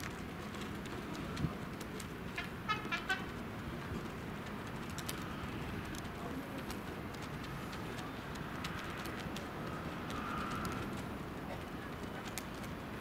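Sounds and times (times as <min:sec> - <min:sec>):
distant city traffic hum: 0:00.0 - 0:13.0.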